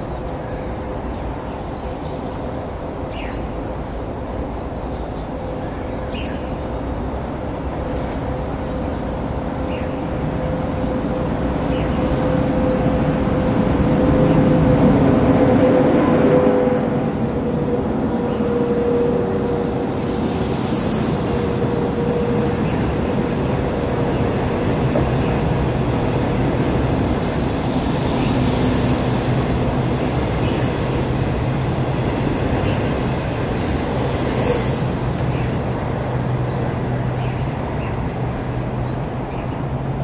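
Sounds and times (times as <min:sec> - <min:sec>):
train wheels rushing on rails: 0:00.0 - 0:40.0.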